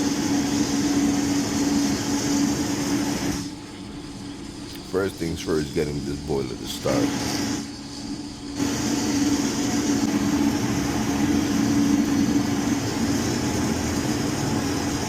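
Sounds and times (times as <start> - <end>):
oil burner motor hum: 0.0 - 15.0.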